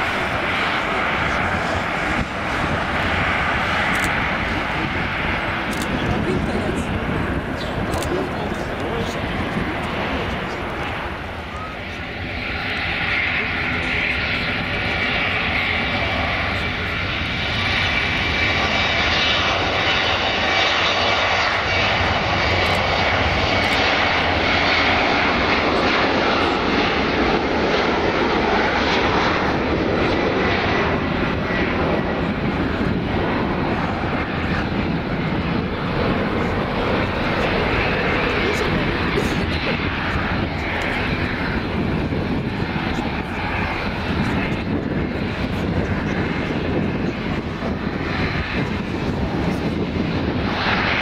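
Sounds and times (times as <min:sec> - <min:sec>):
jet engines rushing: 0:00.0 - 0:51.0.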